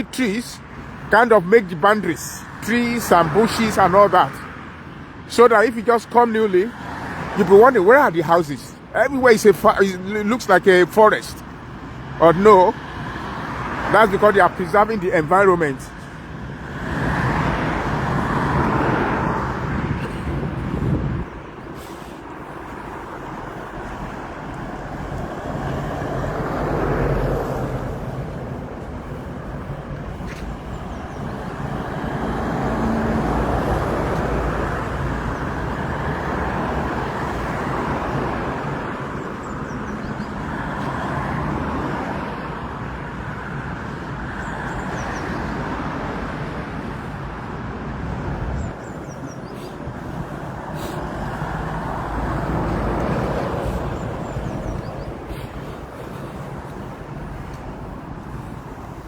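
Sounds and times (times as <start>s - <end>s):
cars passing: 0.0s - 59.0s
road noise: 0.0s - 59.0s.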